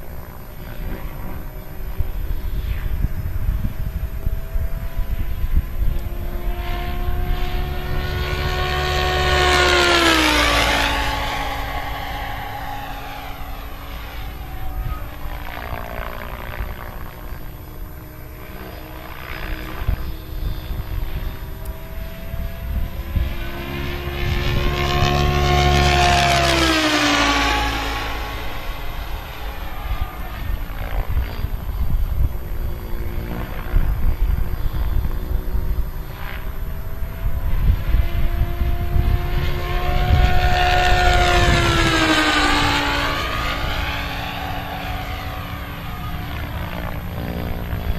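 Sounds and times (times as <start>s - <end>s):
model helicopter rotor whine: 0.0s - 47.9s
wind buffeting microphone: 0.0s - 47.9s.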